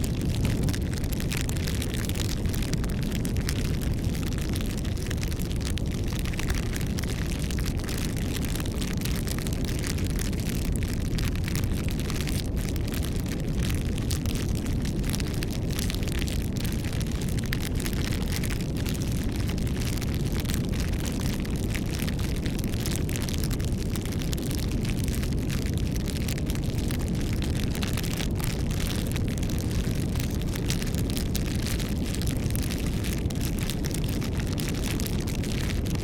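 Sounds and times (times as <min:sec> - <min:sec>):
burning wood crackling: 0:00.0 - 0:36.0
campfire flames rumbling: 0:00.0 - 0:36.0.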